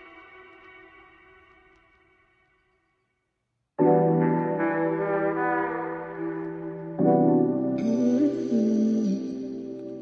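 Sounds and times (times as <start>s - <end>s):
mellow lo-fi music: 0.0s - 3.2s, 3.8s - 10.0s.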